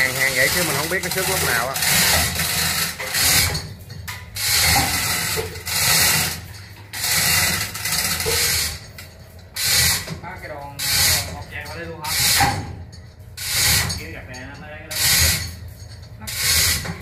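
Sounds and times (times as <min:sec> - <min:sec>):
hoist chains rattling: 0:00.0 - 0:17.0.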